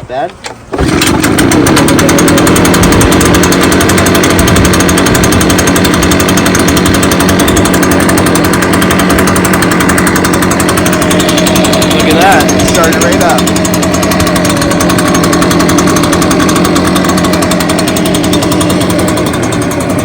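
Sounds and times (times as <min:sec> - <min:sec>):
leaf blower engine running: 0:00.7 - 0:20.0.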